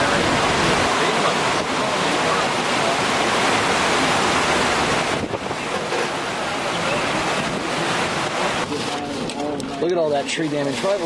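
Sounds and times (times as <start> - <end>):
driving rain: 0.0 - 11.0
hurricane wind: 0.0 - 11.0
wind buffeting microphone: 0.0 - 11.0.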